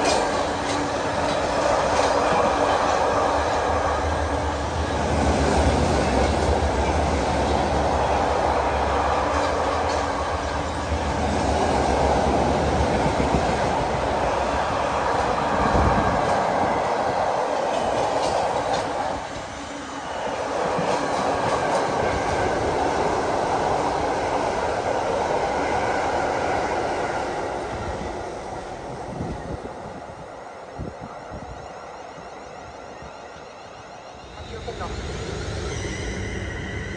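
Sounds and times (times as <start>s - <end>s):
freight train wheels on rails: 0.0s - 36.9s.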